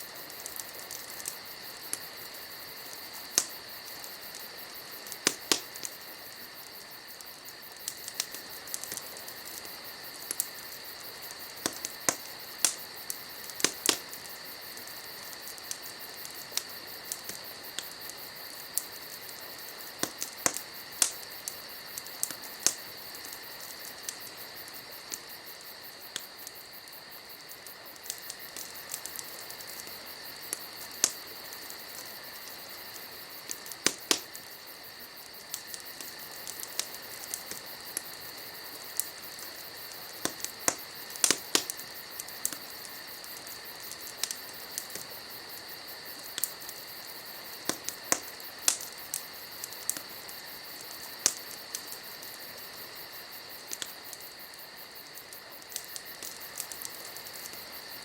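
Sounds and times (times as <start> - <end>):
campfire crackling: 0.0 - 58.0
insects trilling: 0.0 - 58.0.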